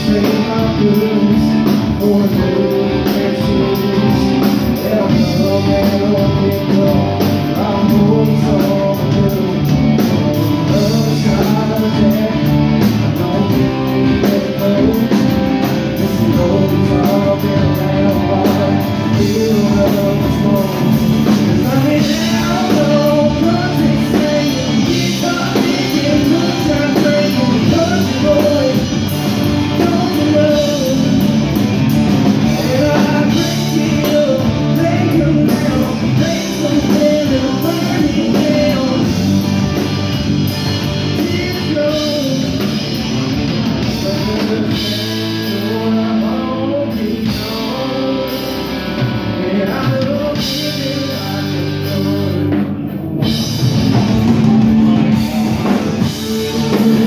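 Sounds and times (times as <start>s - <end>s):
bass guitar: 0.0s - 57.0s
drum kit: 0.0s - 57.0s
electric guitars: 0.0s - 57.0s
lead vocal singing: 0.0s - 57.0s.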